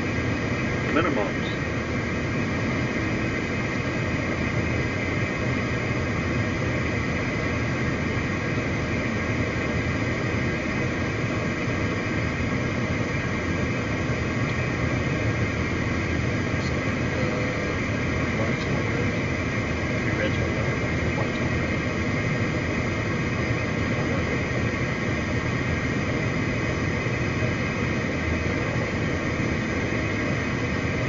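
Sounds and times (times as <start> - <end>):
jet cockpit noise: 0.0 - 31.0
multi-tone hum: 0.0 - 31.0.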